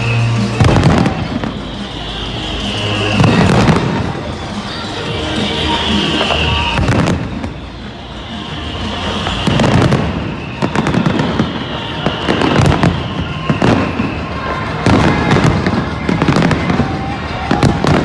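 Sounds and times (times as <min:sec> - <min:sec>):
firework cracks and crackling: 0:00.0 - 0:18.0.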